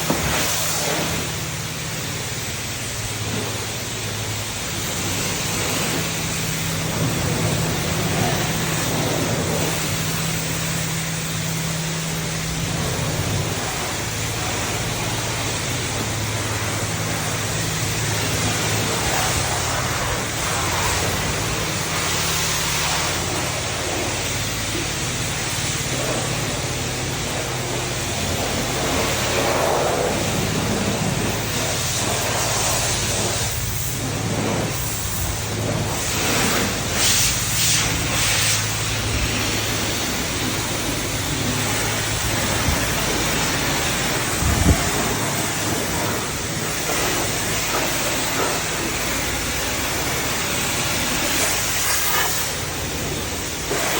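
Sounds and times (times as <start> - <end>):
high-pressure water spray hiss: 0.0 - 53.9
low pump hum: 0.0 - 53.9.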